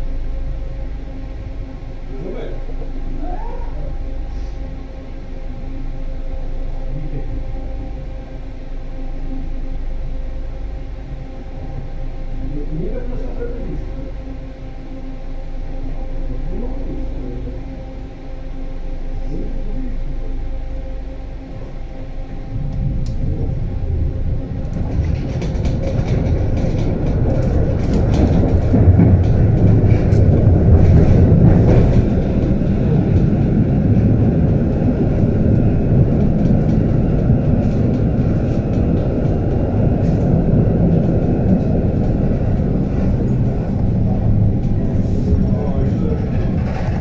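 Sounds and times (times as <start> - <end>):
tram wheels rumbling on rails: 0.0 - 47.0.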